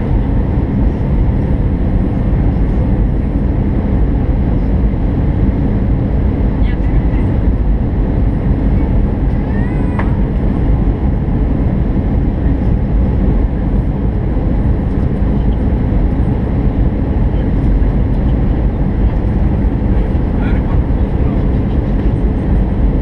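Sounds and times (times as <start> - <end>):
airliner cabin engine roar: 0.0 - 23.0.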